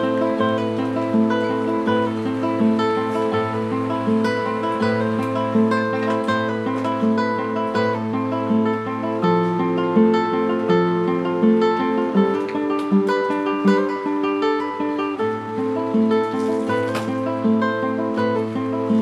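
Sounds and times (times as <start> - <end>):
acoustic guitar plucked chords: 0.0 - 19.0.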